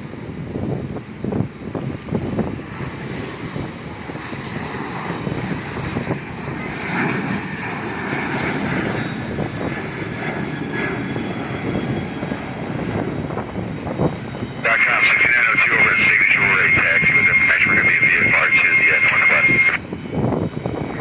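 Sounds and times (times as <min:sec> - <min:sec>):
airliner engines rumbling: 0:00.0 - 0:21.0.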